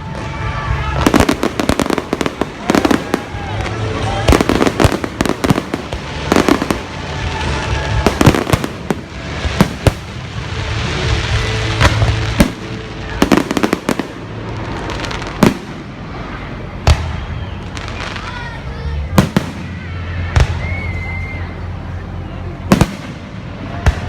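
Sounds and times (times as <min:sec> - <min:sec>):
fireworks bangs and crackling pops: 0:00.0 - 0:21.2, 0:22.6 - 0:24.0.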